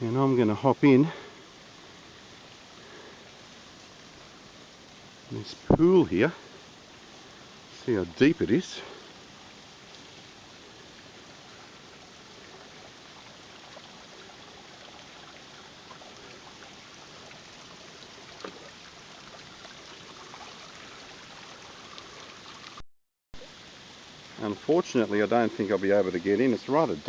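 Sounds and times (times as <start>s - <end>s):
water running and trickling: 0.0s - 22.8s, 23.4s - 27.0s.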